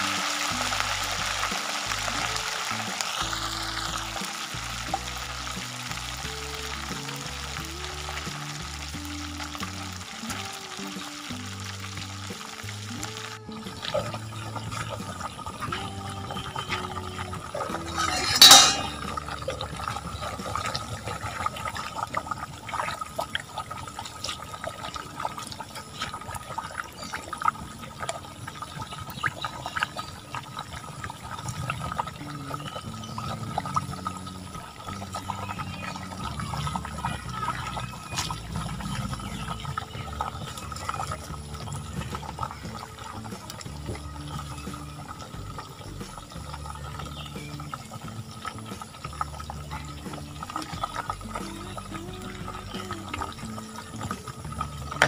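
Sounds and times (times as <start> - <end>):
hot oil sizzling and crackling: 0.0 - 55.0.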